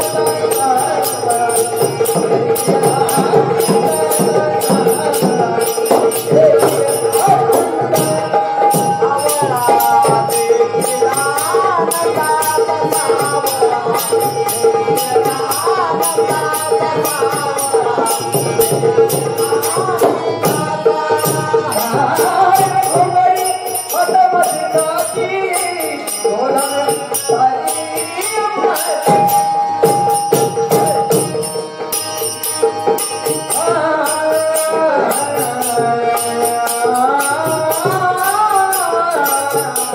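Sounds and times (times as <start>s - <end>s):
person singing: 0.0s - 32.2s, 32.9s - 39.9s.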